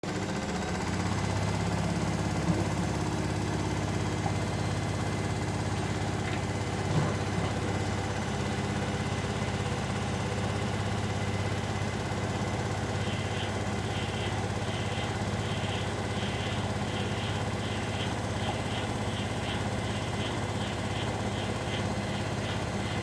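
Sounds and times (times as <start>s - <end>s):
washing machine humming: 0.0s - 23.0s.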